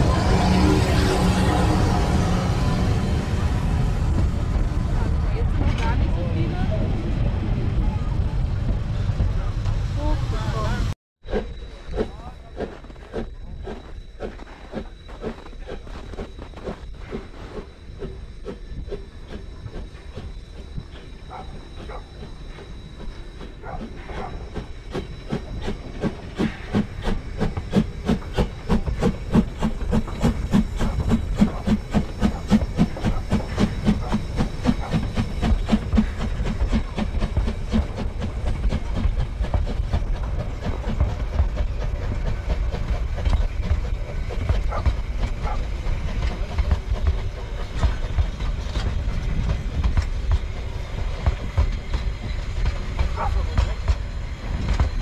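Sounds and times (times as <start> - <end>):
rumble of rolling train: 0.0 - 55.0
steam locomotive chuffing: 0.0 - 55.0.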